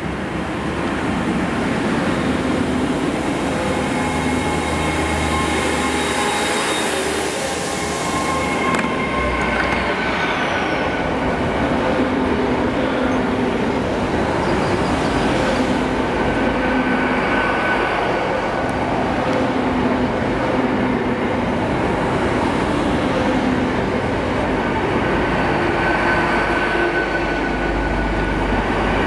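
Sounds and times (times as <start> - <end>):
train running and wheel noise: 0.0 - 29.0.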